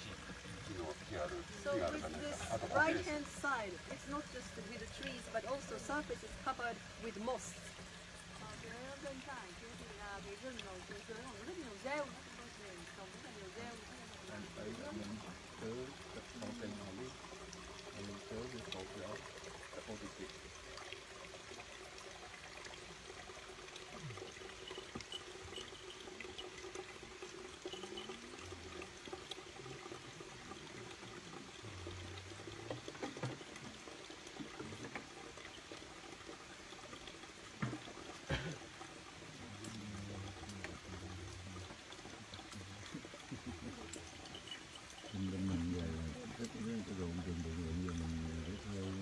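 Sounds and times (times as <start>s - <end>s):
rainwater pouring over ground: 0.0s - 49.0s.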